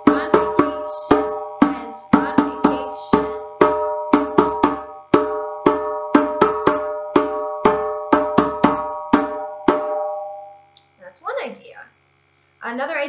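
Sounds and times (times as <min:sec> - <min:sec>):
hand drum strokes: 0:00.0 - 0:10.6.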